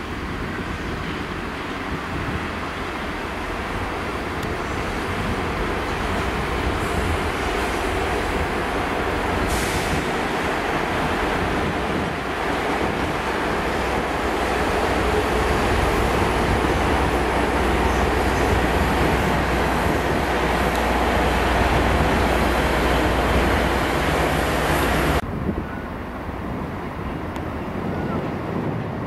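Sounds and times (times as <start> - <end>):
train wheels rumbling: 0.0 - 25.2.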